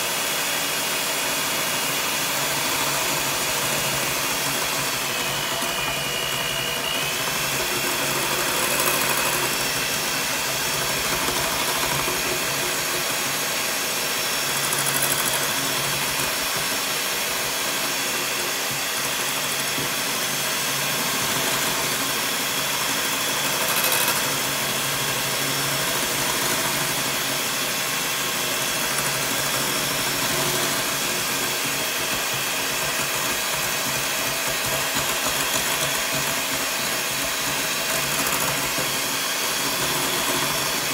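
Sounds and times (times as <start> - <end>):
electric hand mixer whipping: 0.0 - 40.9.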